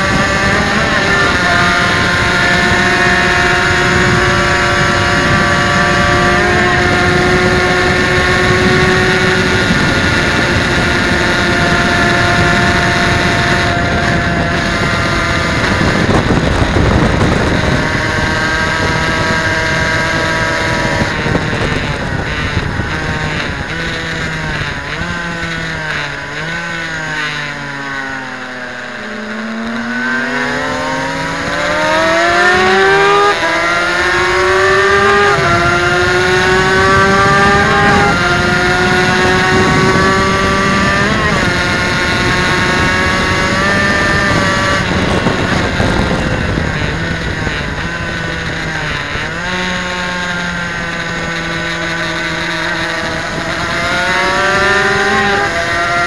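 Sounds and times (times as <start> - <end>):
two-stroke motorcycle engine revving: 0.0 - 56.0.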